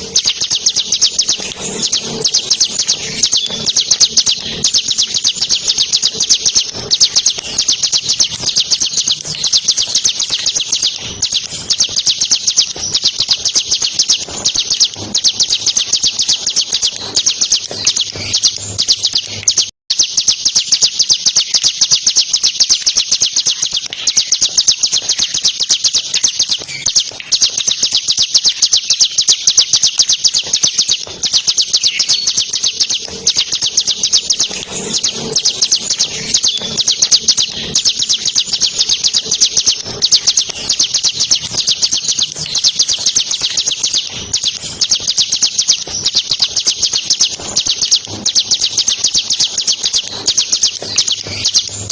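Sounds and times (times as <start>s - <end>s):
bird singing a rattling trill: 0.0s - 51.9s.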